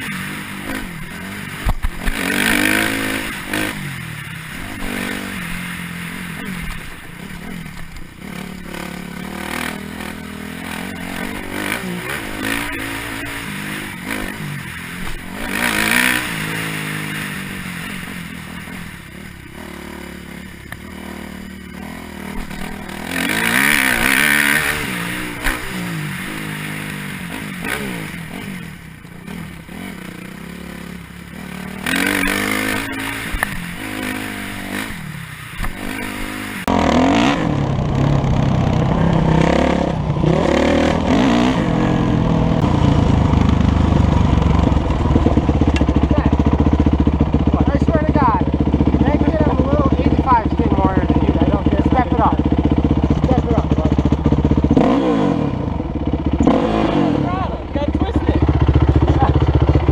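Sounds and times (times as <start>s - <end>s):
bike rattling and clatter: 0.0s - 55.0s, 57.8s - 59.9s
dirt bike engine revving: 0.0s - 59.9s.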